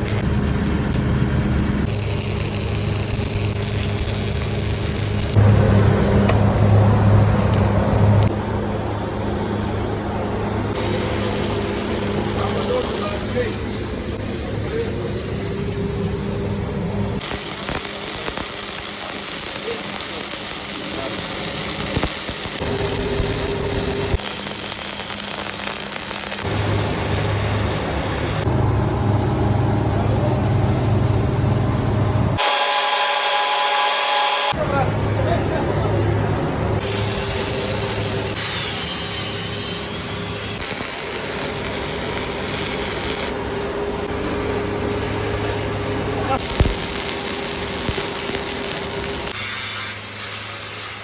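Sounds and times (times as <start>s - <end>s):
welding equipment humming and crackling: 0.0s - 8.5s, 9.2s - 34.6s, 36.8s - 51.0s.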